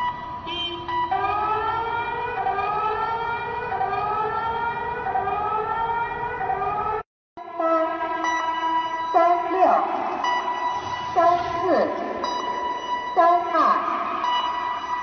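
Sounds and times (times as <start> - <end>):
air-raid sirens wailing: 0.0 - 15.0
steady siren-like tone: 0.0 - 15.0.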